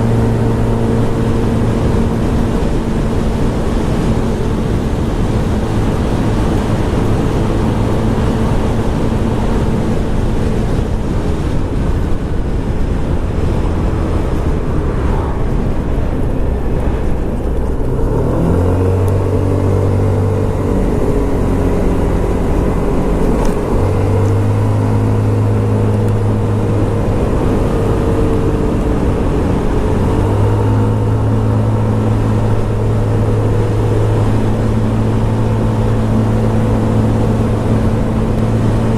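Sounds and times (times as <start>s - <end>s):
scooter engine running: 0.0s - 38.9s
wind noise: 0.0s - 38.9s.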